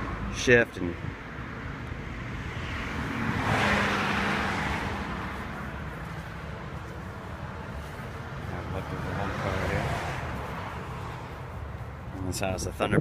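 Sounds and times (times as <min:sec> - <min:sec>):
motor vehicle passing: 0:00.0 - 0:12.4.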